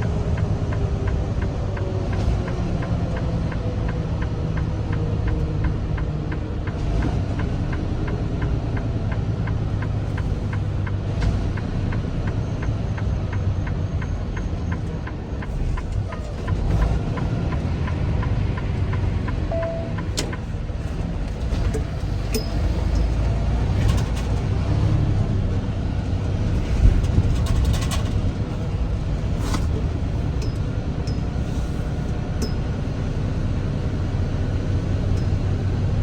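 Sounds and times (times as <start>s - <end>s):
truck engine rumble: 0.0s - 36.0s.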